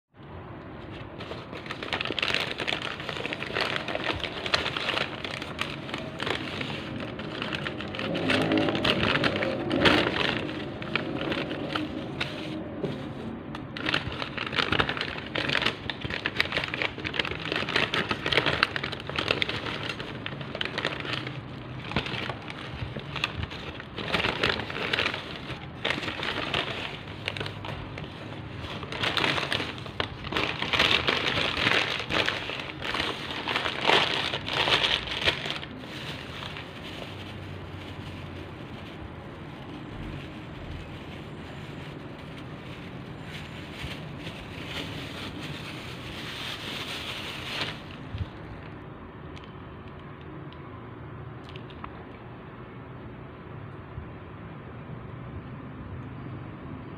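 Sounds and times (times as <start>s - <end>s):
paper and plastic bags rustling: 0.7s - 48.8s.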